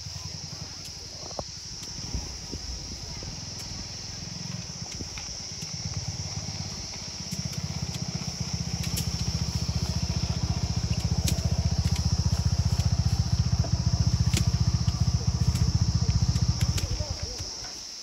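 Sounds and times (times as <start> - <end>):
engine thumping: 0.0 - 17.7.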